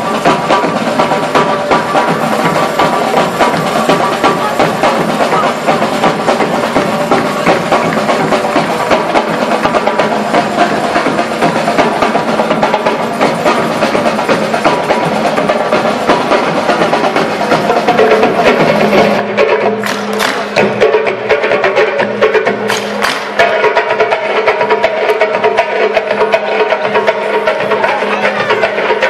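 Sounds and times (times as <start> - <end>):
bass drums and snare drums playing: 0.0 - 29.0.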